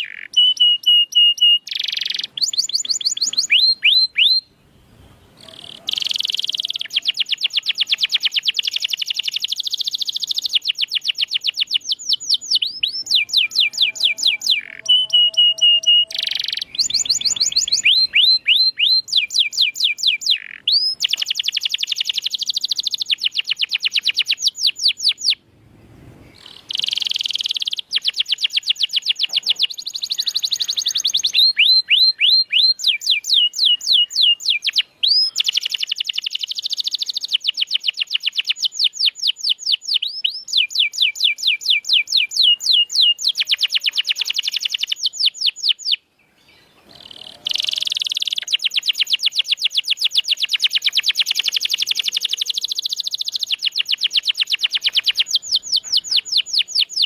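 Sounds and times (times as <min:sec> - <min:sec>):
canary singing trills: 0:00.0 - 0:25.4, 0:26.2 - 0:57.0.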